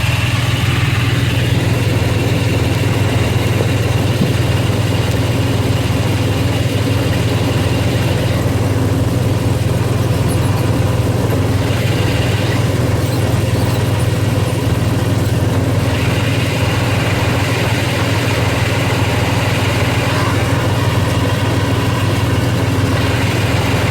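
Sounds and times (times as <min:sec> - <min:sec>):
car engine idling: 0:00.0 - 0:23.9
high whirring: 0:00.0 - 0:23.9.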